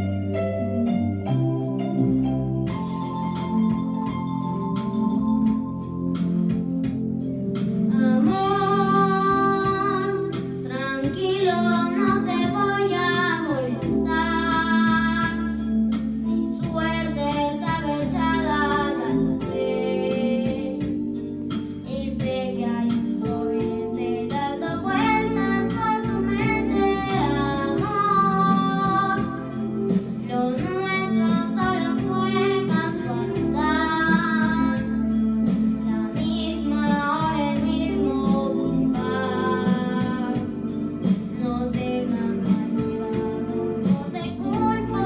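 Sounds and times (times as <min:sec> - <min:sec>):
guitar accompaniment: 0:00.0 - 0:45.0
girl singing a ballad: 0:02.4 - 0:45.0.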